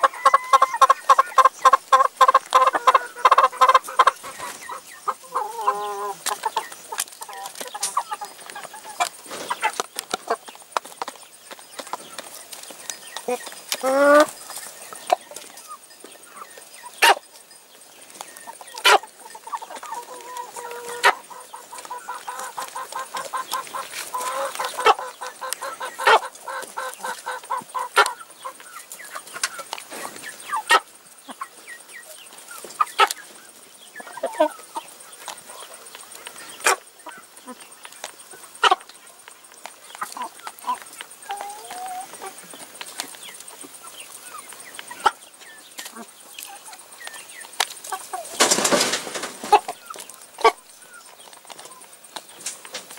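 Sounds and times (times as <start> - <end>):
hens clucking: 0.0 - 52.9.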